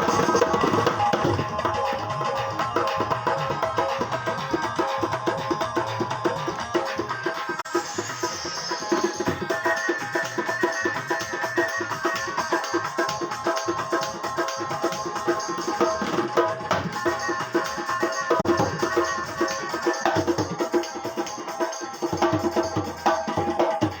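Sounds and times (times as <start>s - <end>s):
electronic drum rhythm: 0.0s - 24.0s.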